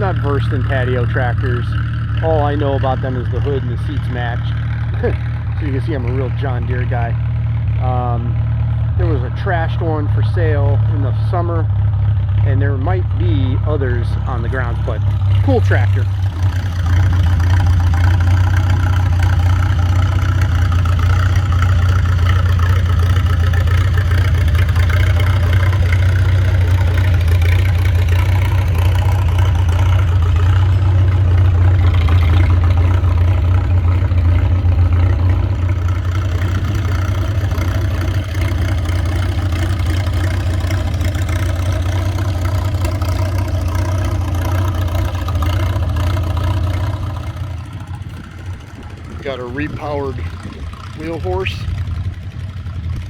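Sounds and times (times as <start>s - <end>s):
engine idling: 0.0s - 53.0s.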